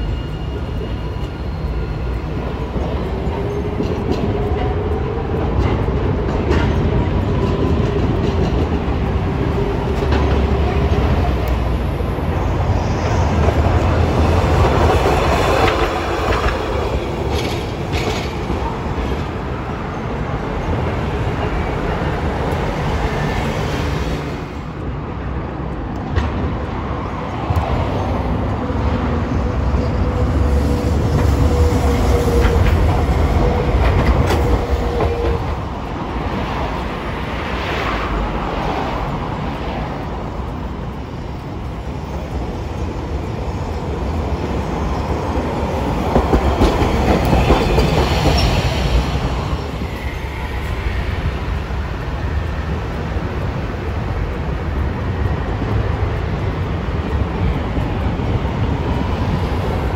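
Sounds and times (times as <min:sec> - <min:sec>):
passing tram hum: 0:00.0 - 0:59.9
wheels rumbling on rail: 0:00.0 - 0:59.9.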